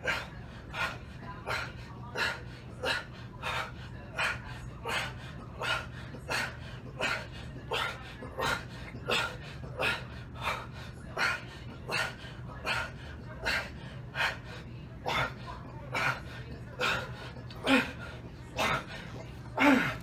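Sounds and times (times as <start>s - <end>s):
man breathing hard: 0.0s - 20.0s.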